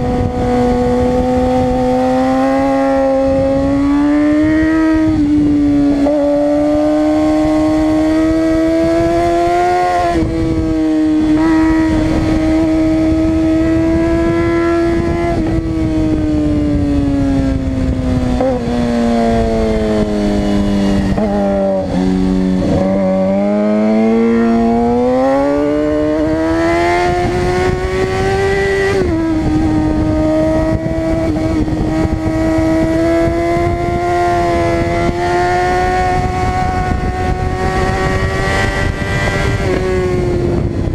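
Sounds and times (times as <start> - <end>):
motorcycle engine at high revs: 0.0 - 40.9.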